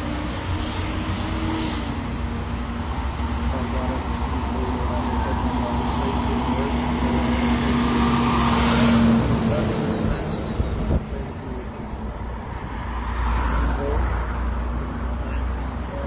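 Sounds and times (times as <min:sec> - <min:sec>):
car passing: 0:00.0 - 0:16.0
heavy truck passing: 0:00.0 - 0:16.0.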